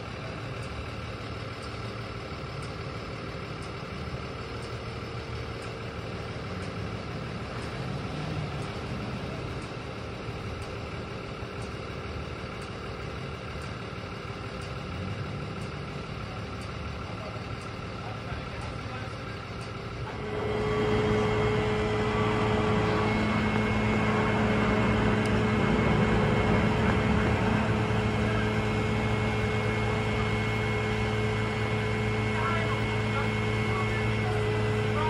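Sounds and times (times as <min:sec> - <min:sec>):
truck engine rumbling: 0:00.0 - 0:35.0.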